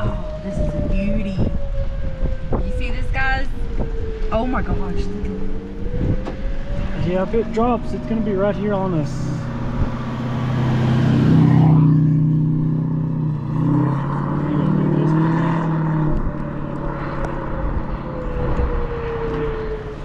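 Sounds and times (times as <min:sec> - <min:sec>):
vehicle engine drone: 0:00.0 - 0:20.0
warning siren wailing: 0:00.0 - 0:20.0.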